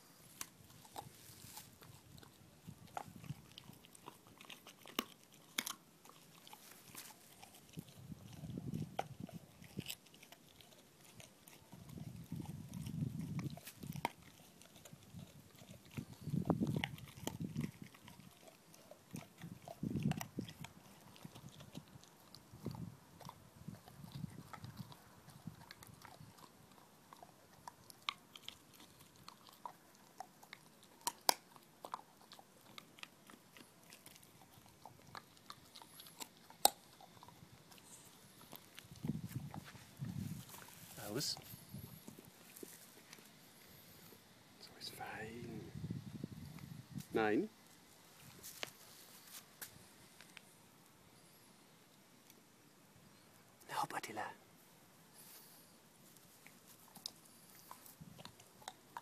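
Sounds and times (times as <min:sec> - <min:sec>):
dog chewing a bone: 0:00.0 - 0:44.2, 0:55.2 - 0:59.0.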